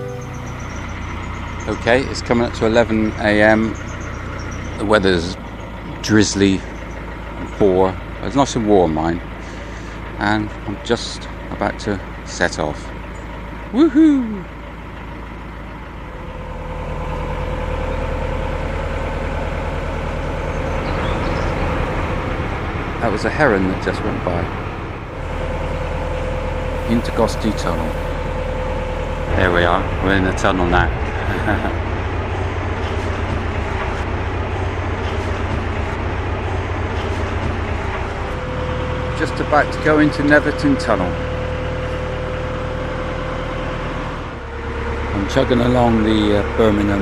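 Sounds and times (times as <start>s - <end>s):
boat diesel engine running: 0.0s - 47.0s.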